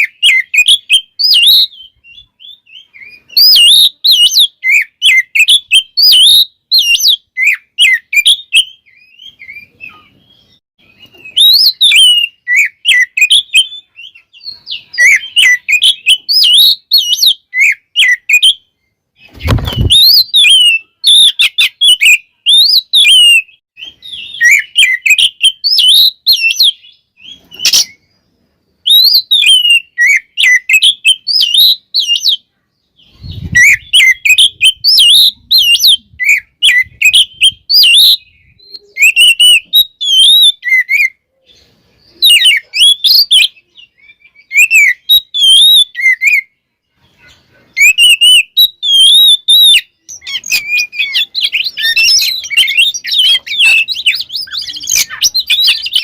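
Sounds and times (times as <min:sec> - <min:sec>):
bird singing: 0:00.0 - 0:56.0.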